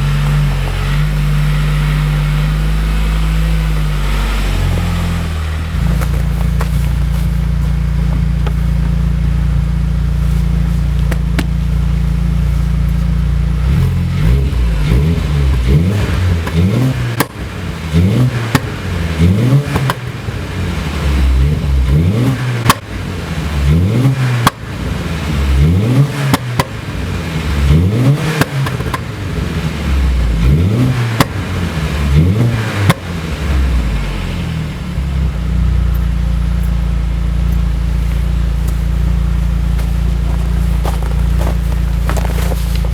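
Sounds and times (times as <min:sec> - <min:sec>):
car engine idling: 0:00.0 - 0:42.9
engine revving in short blips: 0:00.0 - 0:42.9
exhaust pops and crackles: 0:00.0 - 0:42.9.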